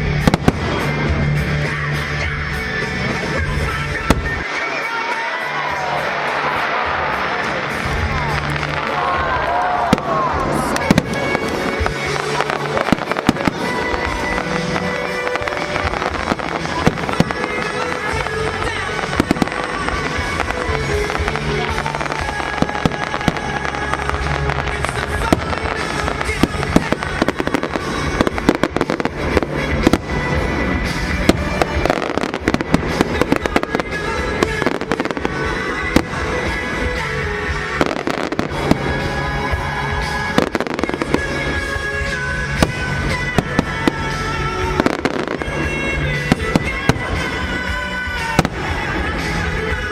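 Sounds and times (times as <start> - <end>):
fireworks bangs and crackling: 0.0 - 49.9
music playing: 0.0 - 49.9.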